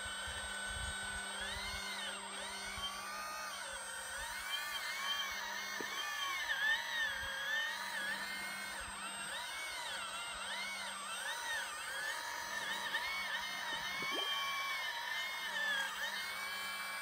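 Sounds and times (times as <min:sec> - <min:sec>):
hydraulic pump motor whining: 0:00.0 - 0:17.0
steady low hum: 0:00.0 - 0:17.0.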